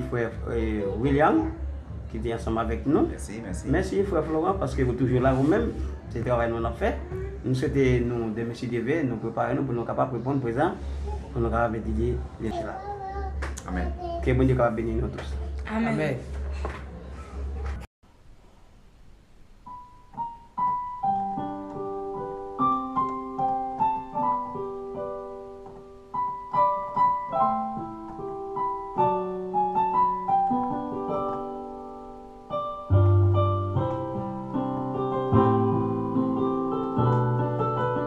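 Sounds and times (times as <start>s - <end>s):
piano melody: 0.0s - 15.6s, 19.6s - 38.0s
piano chords and bass notes: 0.0s - 17.9s, 19.6s - 38.0s.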